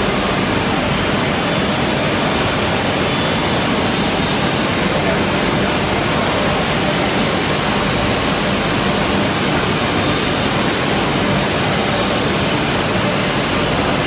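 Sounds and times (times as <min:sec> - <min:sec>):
woodworking machinery rushing din: 0:00.0 - 0:14.0.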